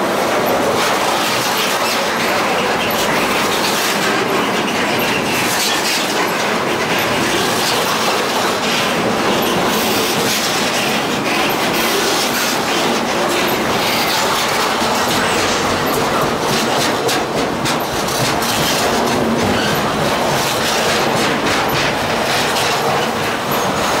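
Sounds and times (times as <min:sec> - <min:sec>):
loud rumble of railcars: 0:00.0 - 0:24.0
train wheels clicking over rail joints: 0:00.0 - 0:24.0.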